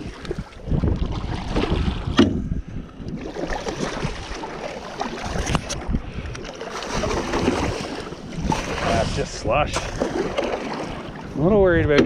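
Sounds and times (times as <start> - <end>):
boat moving through slushy water: 0.0 - 12.0
water washing along hull: 0.0 - 12.0
wind buffeting microphone: 0.0 - 12.0.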